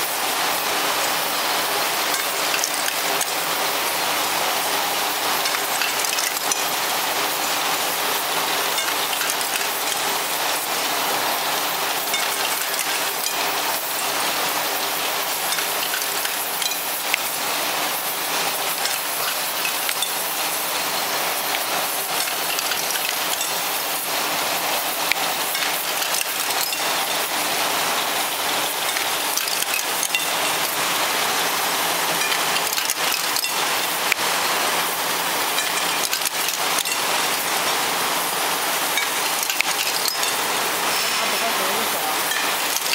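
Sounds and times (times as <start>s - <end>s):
gas burners hissing: 0.0s - 42.9s
machine clicks and clinks: 0.9s - 34.7s, 35.4s - 42.9s.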